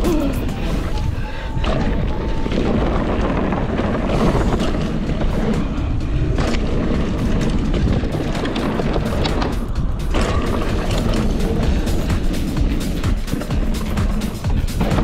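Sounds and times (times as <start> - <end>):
wind buffeting microphone: 0.0 - 15.0
bike rattling clicks: 0.1 - 15.0.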